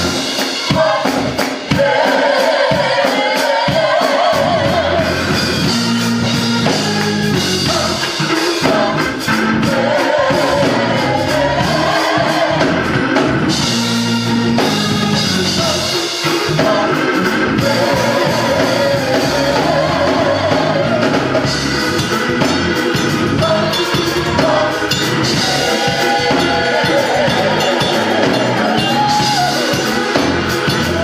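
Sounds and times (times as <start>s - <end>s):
drum kit and cymbals: 0.0s - 31.0s
gospel choir singing: 0.0s - 31.0s.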